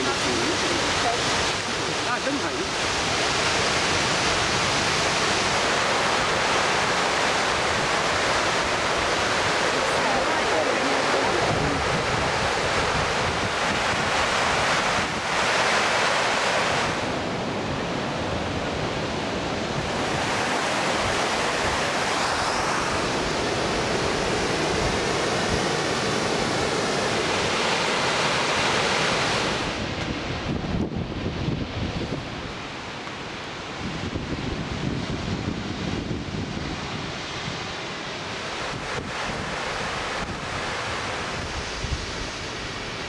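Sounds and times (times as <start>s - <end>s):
river and waterfalls rushing: 0.0s - 43.0s
wind on microphone: 0.0s - 43.0s.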